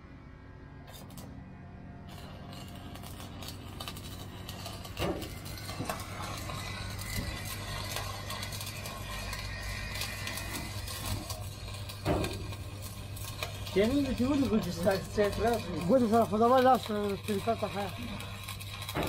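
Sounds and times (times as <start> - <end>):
low hum: 0.0 - 19.0
welding arc crackling: 0.8 - 1.4, 2.0 - 19.0.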